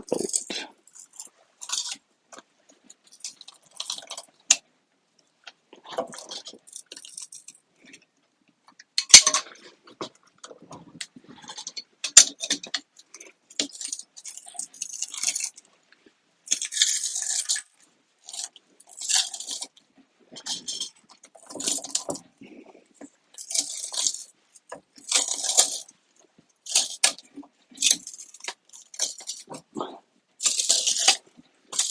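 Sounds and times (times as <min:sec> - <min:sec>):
adhesive crackling and crunching: 0:00.0 - 0:04.7, 0:05.4 - 0:31.9.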